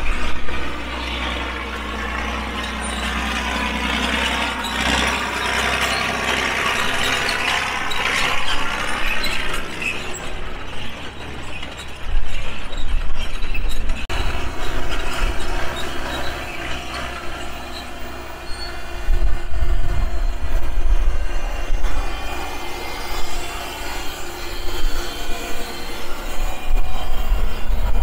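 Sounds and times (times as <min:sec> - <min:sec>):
wind rumble on microphone: 0:00.0 - 0:05.2, 0:06.4 - 0:28.0
diesel engine idling: 0:00.0 - 0:13.2, 0:13.8 - 0:27.9.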